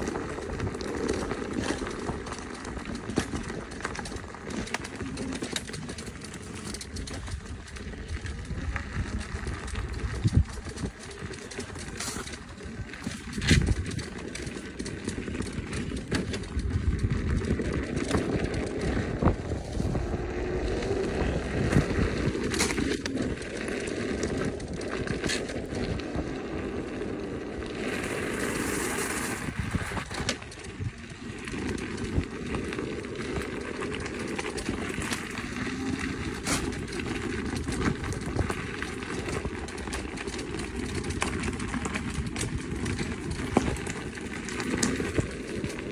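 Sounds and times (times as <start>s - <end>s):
wind and tyre rumble: 0.0s - 45.9s.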